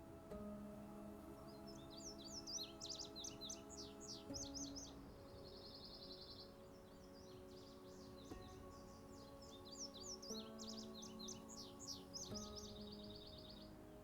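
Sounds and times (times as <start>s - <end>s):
bird trill: 0.0s - 14.0s
soft background music chords: 0.0s - 14.0s
songbirds singing: 0.0s - 14.0s.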